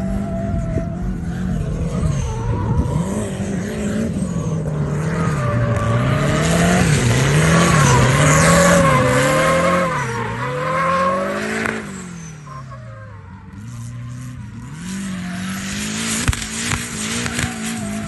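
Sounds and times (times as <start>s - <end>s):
tyre squeal: 0.0s - 16.1s
car engine revving: 0.0s - 18.0s.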